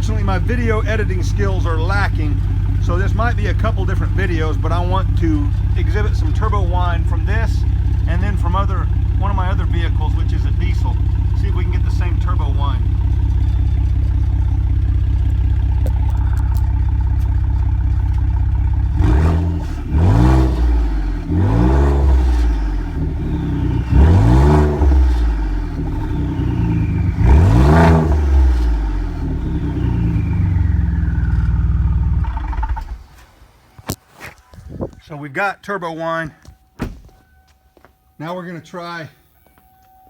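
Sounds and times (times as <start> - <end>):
truck engine idling and revving: 0.0 - 34.6
turbo whine: 0.0 - 35.0.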